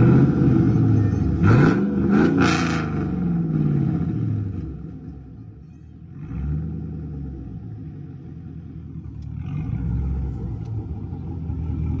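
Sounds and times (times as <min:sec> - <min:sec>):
car exhaust low rumble: 0:00.0 - 0:12.0.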